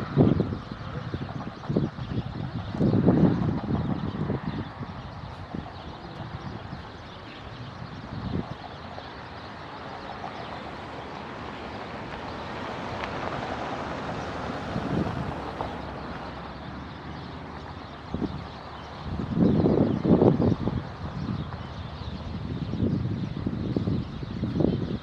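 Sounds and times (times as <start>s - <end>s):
gusts buffeting microphone: 0.0s - 25.0s
strong wind rushing: 0.0s - 25.0s.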